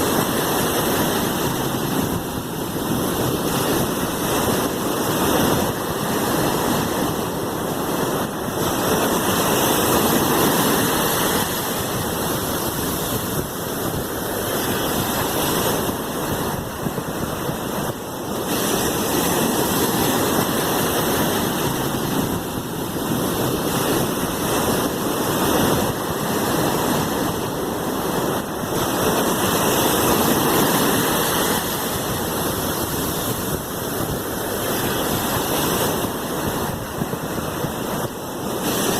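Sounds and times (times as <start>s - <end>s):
sea waves washing: 0.0s - 38.9s.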